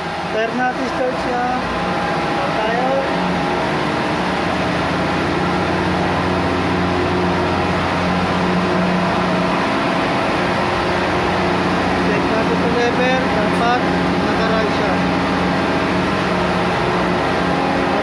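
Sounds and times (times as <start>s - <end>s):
diesel engine room roar: 0.0s - 18.0s.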